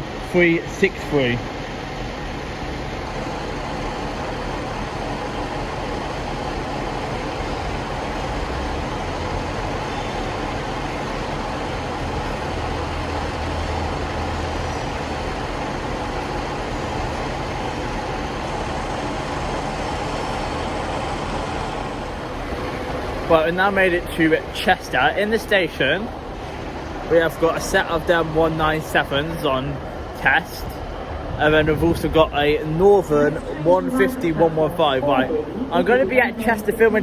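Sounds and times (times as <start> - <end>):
diesel train engine rumble: 0.0 - 37.0.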